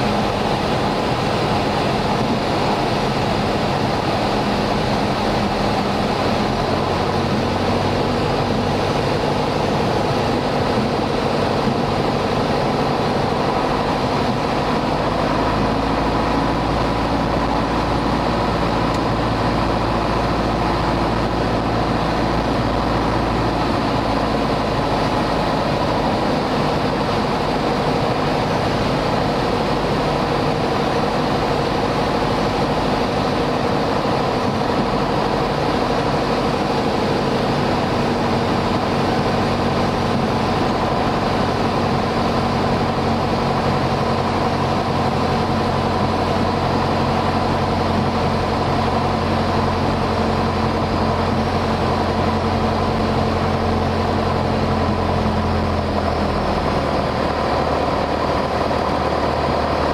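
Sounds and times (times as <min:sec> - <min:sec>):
propeller airplane engine: 0:00.0 - 0:59.9.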